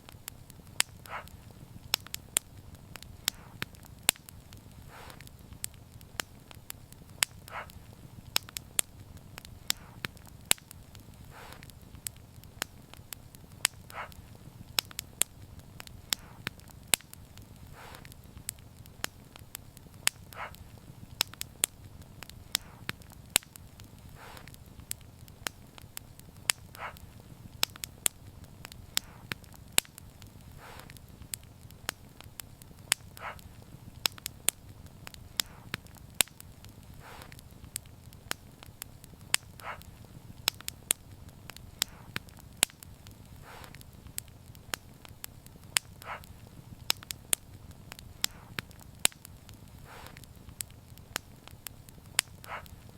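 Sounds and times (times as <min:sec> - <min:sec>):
low rumble of burning: 0:00.0 - 0:52.9
soft hiss: 0:00.0 - 0:52.9
wood fire crackling: 0:00.0 - 0:52.9.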